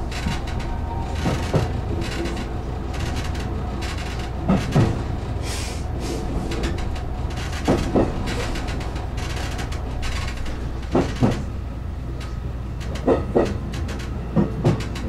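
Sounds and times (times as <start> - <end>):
wheels clunking over rail joints: 0.0 - 5.4, 6.0 - 15.0
train running rumble: 0.0 - 15.0.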